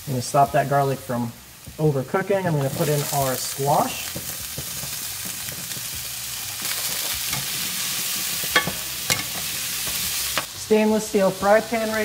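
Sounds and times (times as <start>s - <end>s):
squash sizzling in oil: 0.0s - 12.0s.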